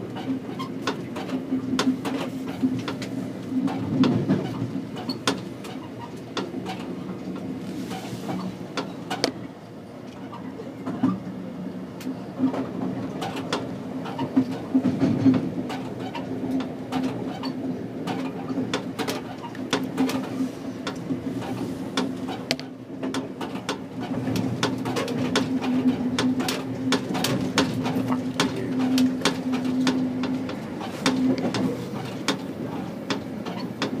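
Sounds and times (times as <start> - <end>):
wheels clicking over rail joints: 0.0 - 9.4, 12.0 - 34.0
train running hum and rumble: 0.0 - 34.0.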